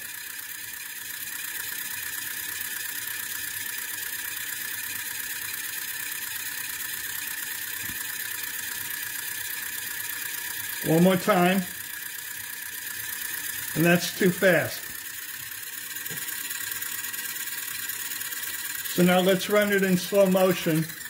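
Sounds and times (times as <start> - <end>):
small electric motor whirring: 0.0 - 21.0.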